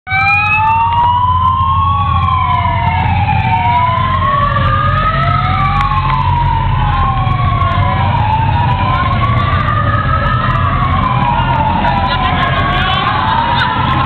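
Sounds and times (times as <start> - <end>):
siren wailing: 0.1 - 14.0.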